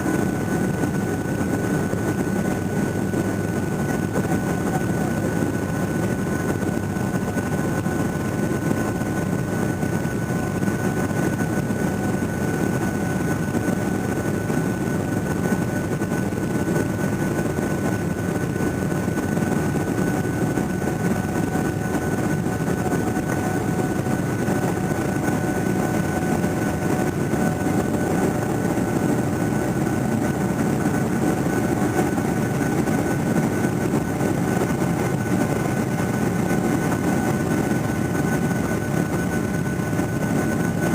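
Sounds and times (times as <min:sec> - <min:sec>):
high engine whine: 0:00.0 - 0:40.9
jet cabin rumble: 0:00.0 - 0:40.9.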